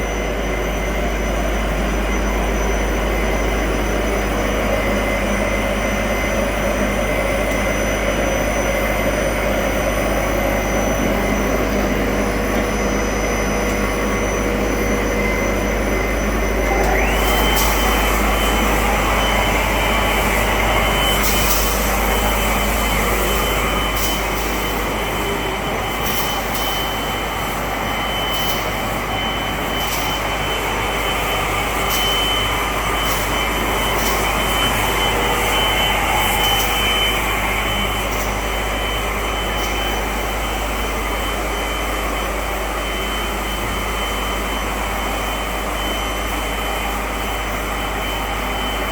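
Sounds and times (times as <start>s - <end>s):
extrusion machine running: 0.0s - 48.9s
high whine: 0.0s - 48.9s.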